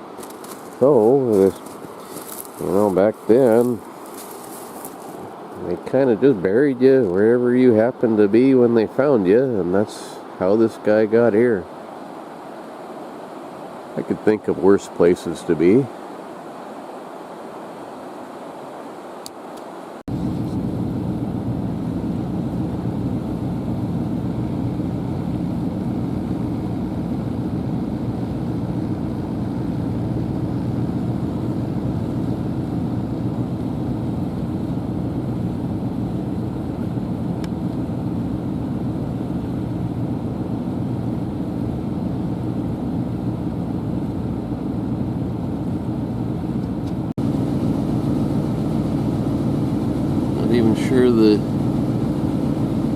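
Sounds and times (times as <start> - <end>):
vehicle engine and road noise: 0.0 - 18.6, 19.3 - 52.9.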